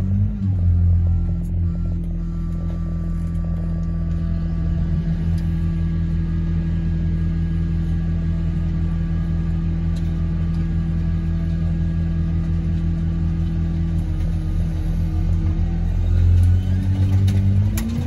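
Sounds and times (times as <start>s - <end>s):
large engine running: 0.0s - 18.0s.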